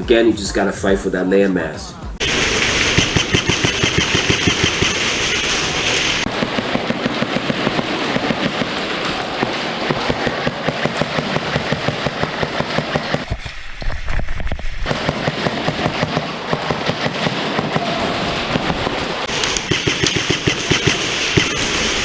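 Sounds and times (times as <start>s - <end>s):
airsoft guns firing: 2.2s - 13.3s, 14.8s - 22.0s.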